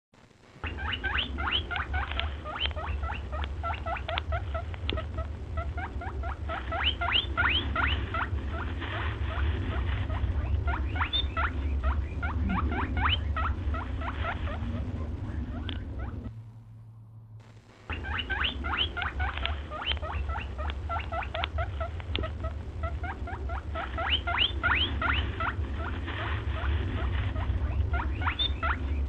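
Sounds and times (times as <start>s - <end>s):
low rumble: 0.2s - 29.0s
animal squeaking: 0.6s - 16.4s, 17.9s - 29.0s.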